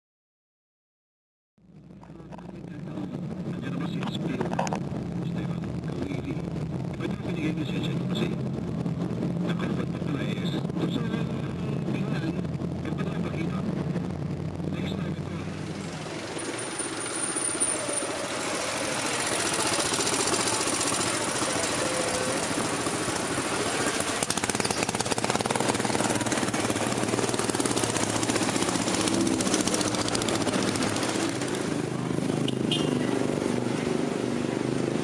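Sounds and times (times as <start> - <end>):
engine with rapid rattle: 1.6 - 35.0
road noise: 1.6 - 35.0.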